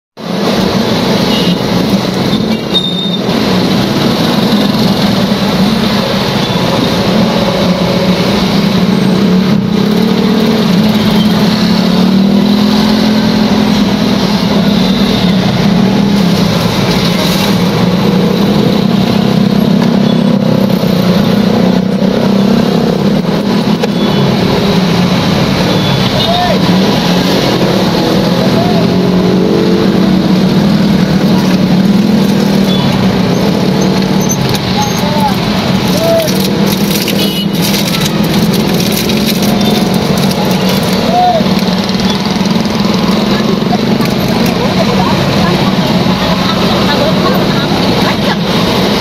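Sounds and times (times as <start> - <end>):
scooter engines in traffic: 0.2 - 49.0.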